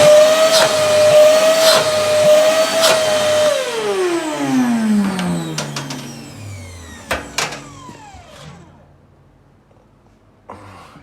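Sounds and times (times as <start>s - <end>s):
vacuum cleaner motor whining: 0.0s - 9.0s.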